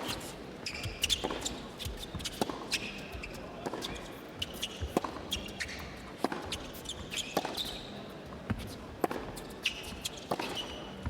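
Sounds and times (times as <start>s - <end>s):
shoes squeaking on court: 0.0s - 11.0s.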